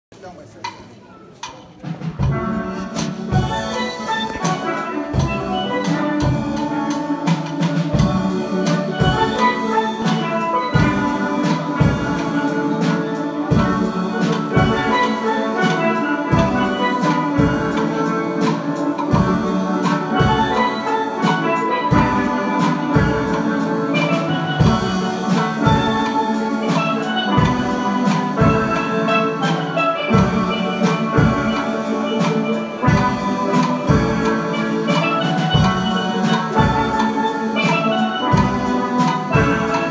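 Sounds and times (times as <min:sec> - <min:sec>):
drums beating: 0:00.1 - 0:39.9
steelpans playing: 0:00.2 - 0:39.9.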